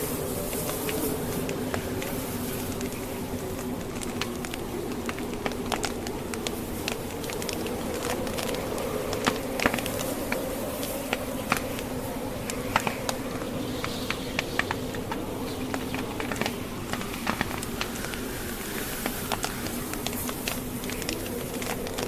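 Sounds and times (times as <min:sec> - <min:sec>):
logs popping and snapping: 0:00.0 - 0:22.0
wind noise: 0:00.0 - 0:22.0
wood fire crackling: 0:00.0 - 0:22.0.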